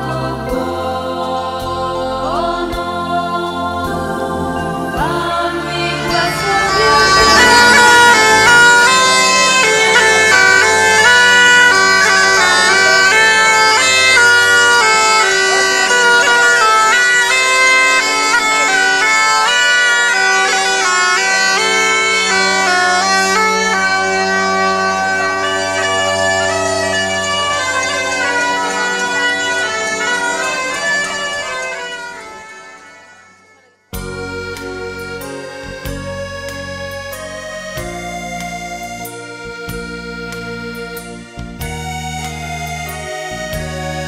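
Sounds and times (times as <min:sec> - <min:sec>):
bagpipe drones: 0:00.0 - 0:44.0
bagpipes playing lively melody: 0:02.0 - 0:33.3, 0:34.0 - 0:44.0.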